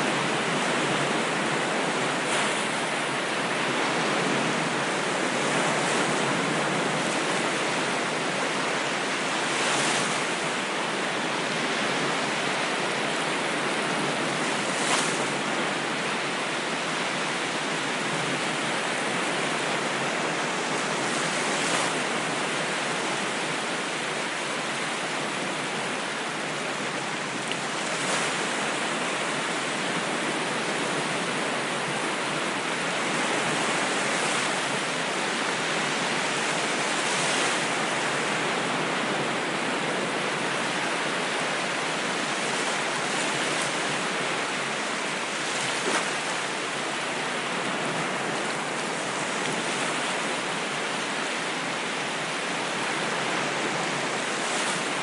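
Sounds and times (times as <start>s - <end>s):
ocean waves: 0.0s - 55.0s.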